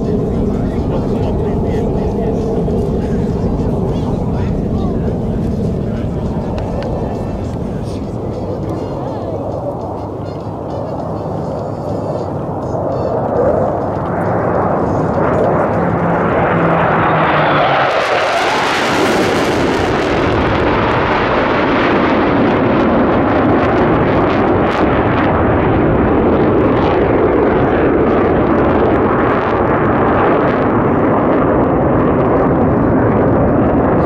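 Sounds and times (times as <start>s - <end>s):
jet fighters passing low: 0.0s - 34.0s.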